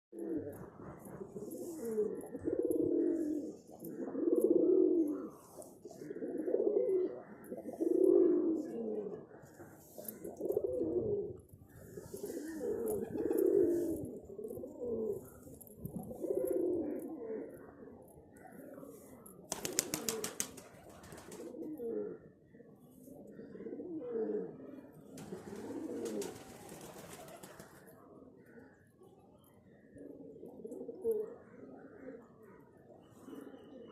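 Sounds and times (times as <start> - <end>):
pigeons cooing: 0.2 - 28.8, 29.7 - 33.9.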